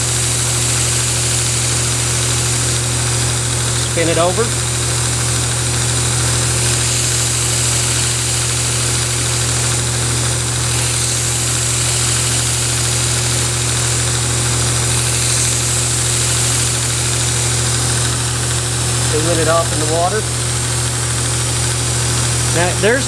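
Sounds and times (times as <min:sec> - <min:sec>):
belt sander humming: 0:00.0 - 0:23.0
steel edge hissing on abrasive belt: 0:00.0 - 0:23.0.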